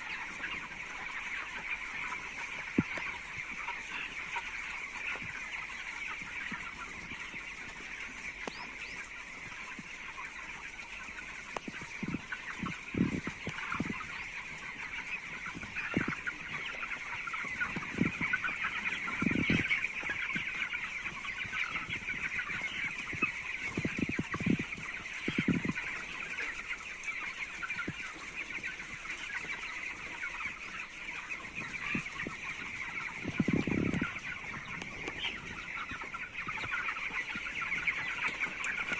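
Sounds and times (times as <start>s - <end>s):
chicks peeping and chirping: 0.0s - 38.9s.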